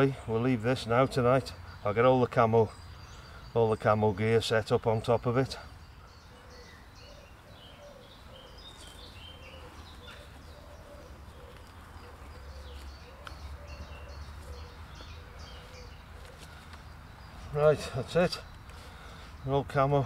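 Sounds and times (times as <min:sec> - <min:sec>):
birds singing: 0:00.0 - 0:20.0
lower repeated bird call: 0:02.7 - 0:20.0.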